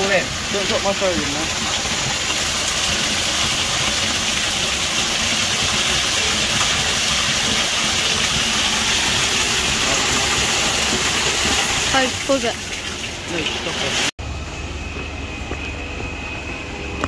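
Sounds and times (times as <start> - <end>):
concrete pump engine running: 0.0 - 17.0.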